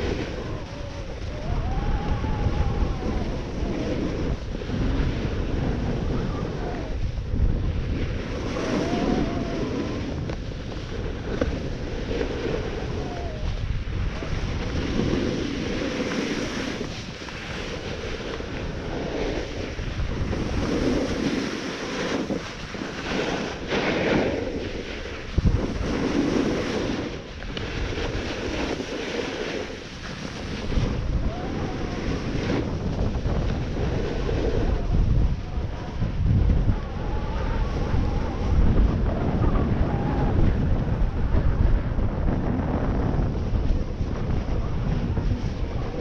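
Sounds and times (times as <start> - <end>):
snowboard scraping snow: 0.0 - 46.0
wind on microphone: 0.0 - 46.0.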